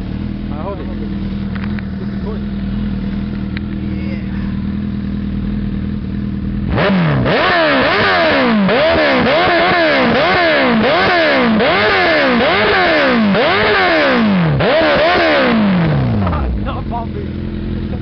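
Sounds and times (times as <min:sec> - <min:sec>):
motorcycle engine throttle blips: 0:00.0 - 0:18.0.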